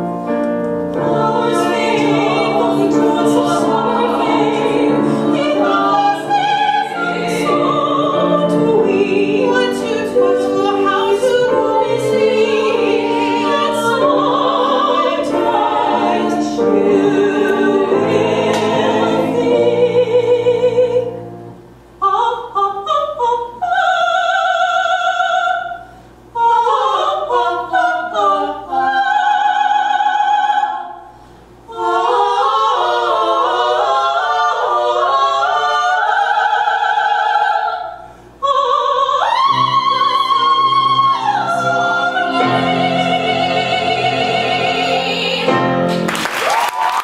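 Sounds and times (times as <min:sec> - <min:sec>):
women singing in harmony: 0:00.8 - 0:21.4, 0:22.0 - 0:46.0.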